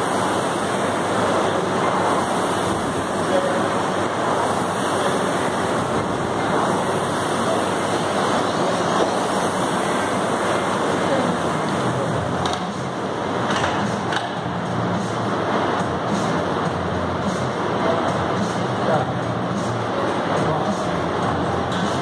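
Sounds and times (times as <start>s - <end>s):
rowing machine fan whooshing: 0.0s - 22.0s.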